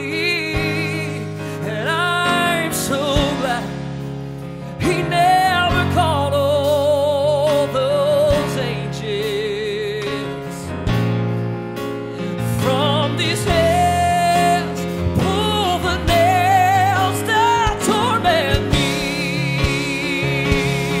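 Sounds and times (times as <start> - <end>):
man singing gospel song: 0.0 - 11.0, 12.2 - 21.0.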